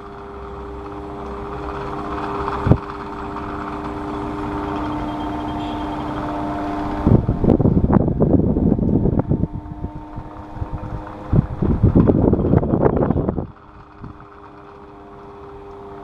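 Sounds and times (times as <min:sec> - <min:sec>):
gusts of air noise: 0:00.0 - 0:14.6
electric fan motor hum: 0:00.0 - 0:16.0.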